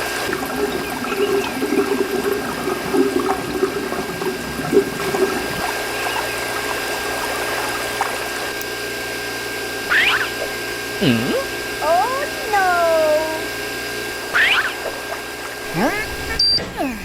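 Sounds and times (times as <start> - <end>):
pump whine: 0.0 - 17.0
water pumping: 0.0 - 17.0.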